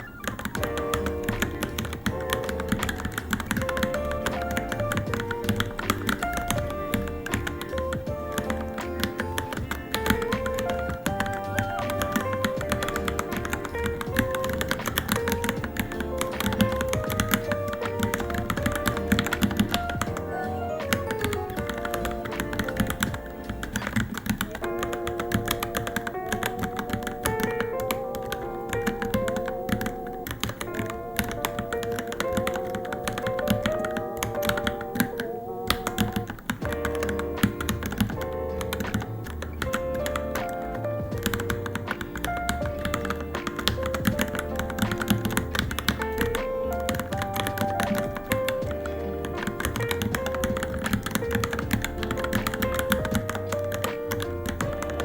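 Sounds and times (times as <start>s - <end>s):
background music with melody: 0.0s - 55.0s
fast mechanical keyboard typing: 0.0s - 55.0s.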